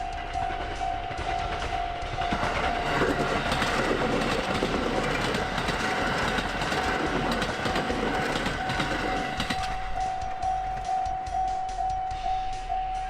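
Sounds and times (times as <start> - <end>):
train wheels clattering on rails: 0.0 - 12.6
level crossing warning bell: 0.0 - 13.0.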